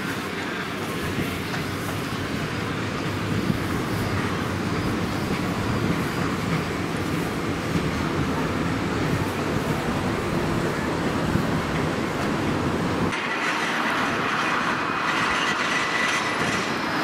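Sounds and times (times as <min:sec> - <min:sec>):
electric trams rumbling on track: 0:00.0 - 0:17.0.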